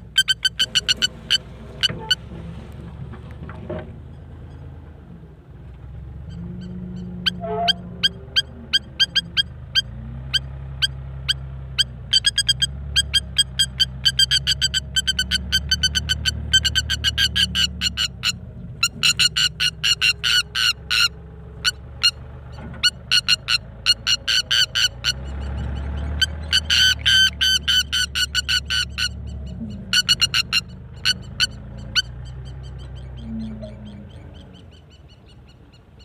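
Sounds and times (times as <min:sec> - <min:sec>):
bird alarm calls: 0:00.0 - 0:02.2, 0:06.2 - 0:36.0
bulldozer engine running: 0:00.0 - 0:36.0.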